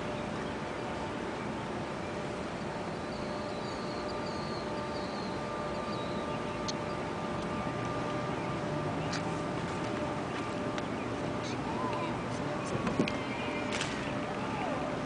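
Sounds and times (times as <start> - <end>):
faint high wavering tone: 0.0 - 15.0
faint steady hum: 0.0 - 15.0
outdoor background noise: 0.0 - 15.0.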